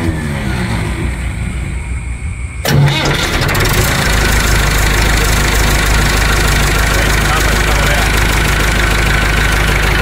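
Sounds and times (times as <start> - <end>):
tractor diesel engine starting: 0.0 - 10.0.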